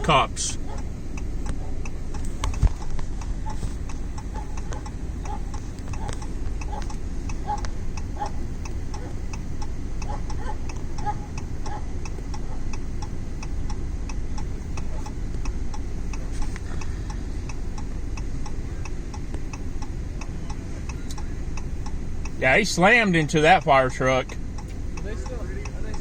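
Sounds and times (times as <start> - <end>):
low rumble inside car: 0.0 - 26.0
turn signal ticking: 0.0 - 26.0.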